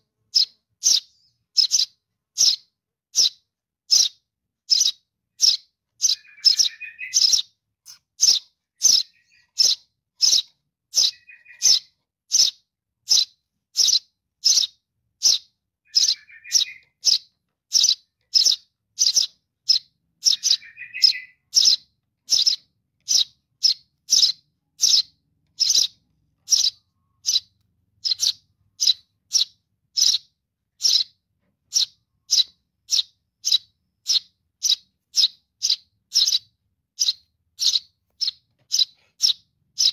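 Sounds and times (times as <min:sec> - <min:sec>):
young sparrow chirping: 0:00.0 - 0:39.9.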